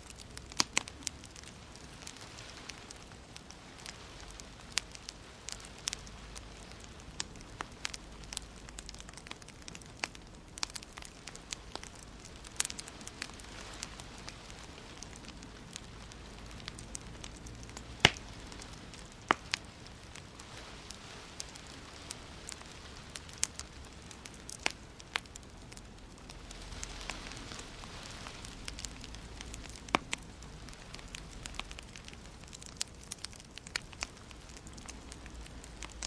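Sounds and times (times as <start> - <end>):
fire pops and snaps: 0.0 - 36.0
soft hiss of fire: 0.0 - 36.0.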